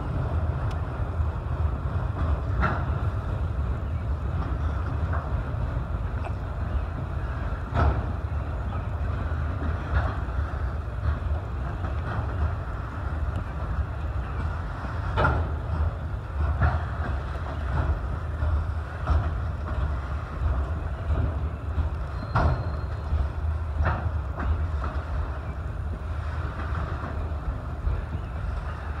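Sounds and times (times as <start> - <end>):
freight train rumbling past: 0.0 - 29.0
train cars clanking: 0.0 - 29.0.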